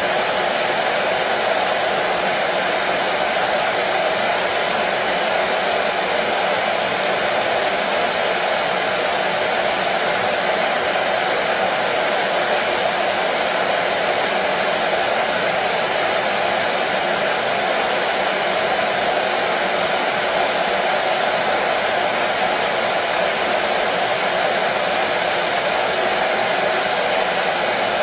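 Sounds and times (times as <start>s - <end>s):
washing machine whooshing: 0.0s - 28.0s.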